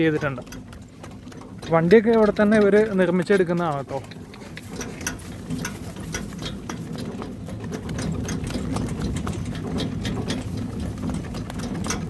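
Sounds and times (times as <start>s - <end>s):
cart and harness rattling: 0.0s - 12.0s
hoofbeats on dirt: 0.0s - 12.0s
wheels rumbling on ground: 0.0s - 12.0s.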